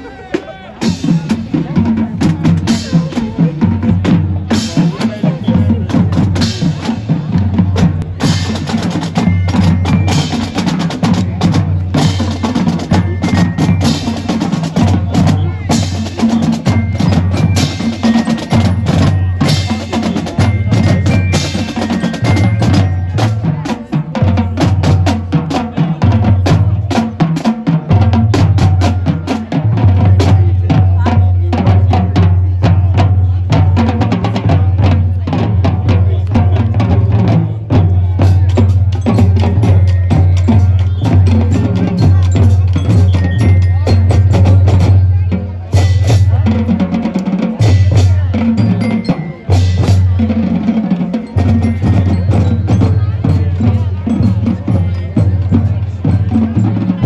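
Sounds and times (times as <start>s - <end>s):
bass drums beating: 0.4s - 57.0s
snare drums and rolls: 0.4s - 57.0s.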